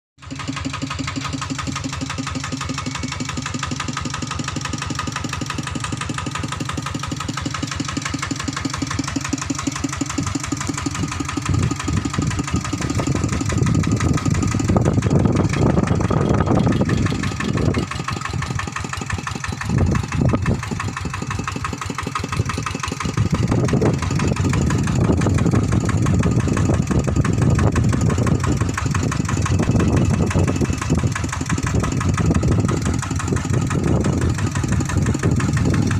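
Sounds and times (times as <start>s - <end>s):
tractor engine idling and revving: 0.2s - 35.9s.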